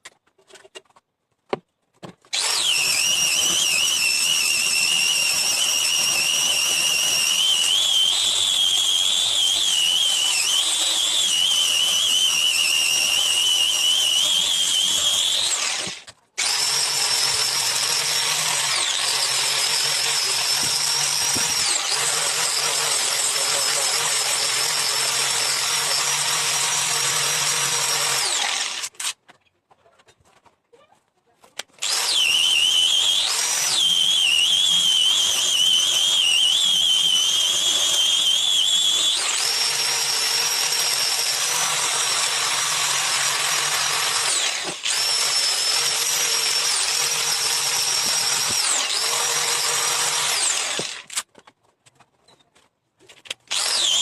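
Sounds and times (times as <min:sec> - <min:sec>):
power tool whining: 0:02.3 - 0:29.2, 0:31.8 - 0:51.3, 0:53.5 - 0:54.0.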